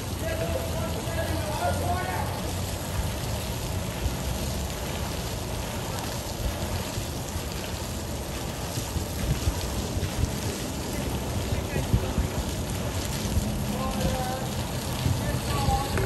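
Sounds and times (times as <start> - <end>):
fountain water splashing into basin: 0.0 - 16.0.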